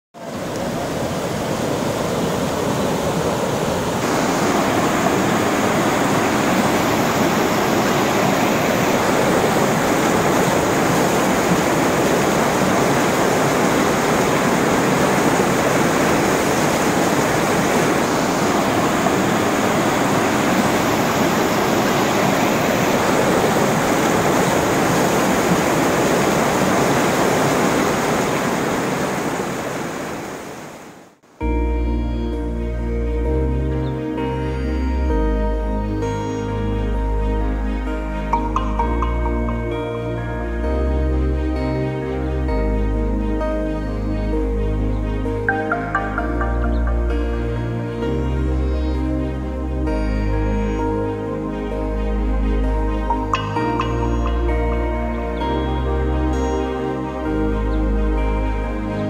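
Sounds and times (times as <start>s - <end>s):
river water rushing: 0.2s - 31.3s, 32.5s - 59.0s.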